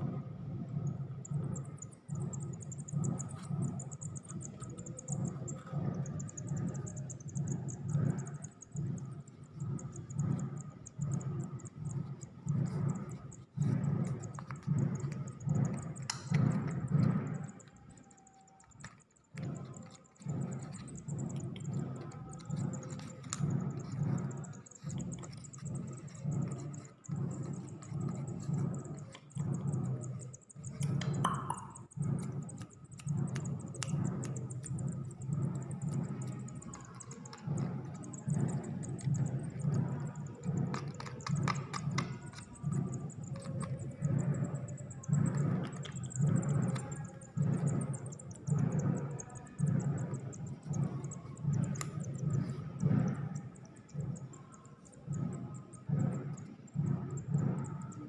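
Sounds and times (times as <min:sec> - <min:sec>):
low pulse: 0:00.0 - 0:58.0
nestling birds cheeping: 0:00.0 - 0:58.0.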